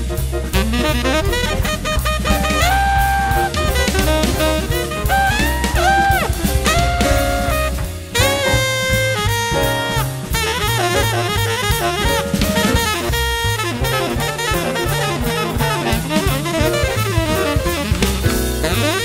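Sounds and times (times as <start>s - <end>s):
drum kit beat: 0.0s - 19.0s
saxophone melody: 0.4s - 19.0s.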